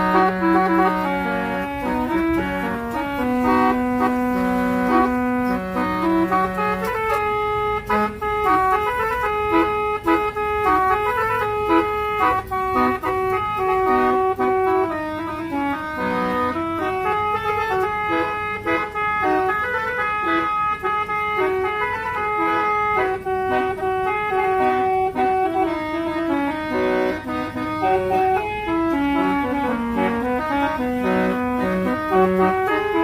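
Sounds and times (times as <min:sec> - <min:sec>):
musical vehicle horn playing tune: 0:00.0 - 0:33.0.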